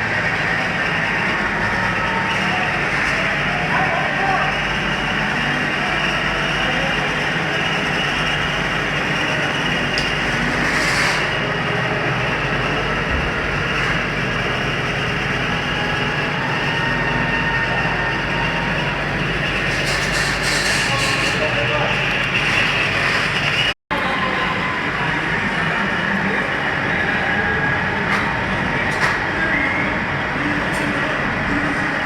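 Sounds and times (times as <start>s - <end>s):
lathe running: 0.0s - 32.0s.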